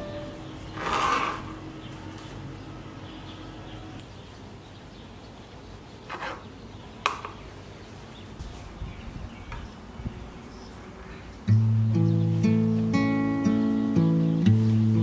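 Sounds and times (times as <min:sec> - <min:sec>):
low room hiss: 0:00.0 - 0:15.0.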